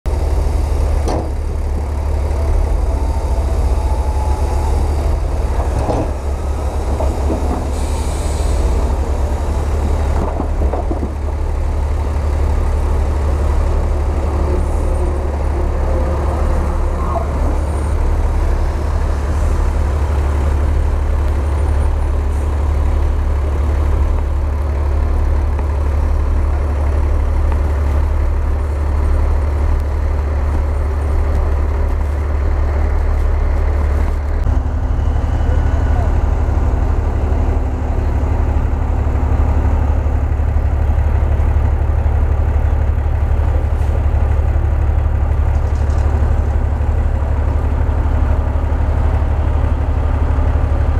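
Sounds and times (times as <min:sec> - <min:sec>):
diesel truck engine running: 0:00.1 - 0:50.9.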